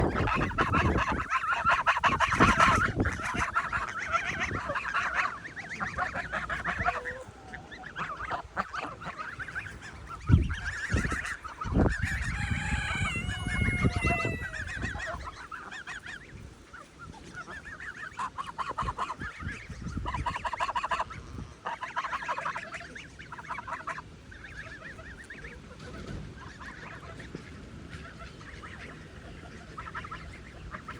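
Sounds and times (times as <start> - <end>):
geese honking: 0.0 - 30.9.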